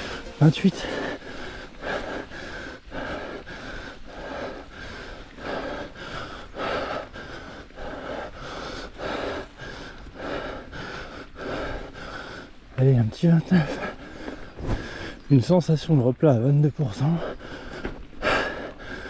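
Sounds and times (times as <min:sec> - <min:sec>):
person breathing hard and fast: 0:00.0 - 0:12.7, 0:13.6 - 0:15.2, 0:17.2 - 0:19.0.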